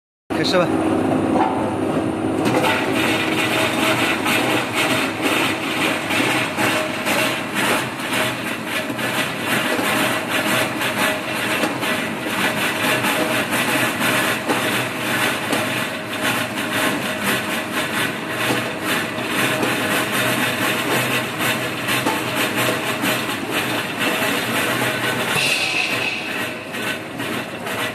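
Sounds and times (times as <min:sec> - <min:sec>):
vegetable dicing machine running: 0:00.4 - 0:27.9.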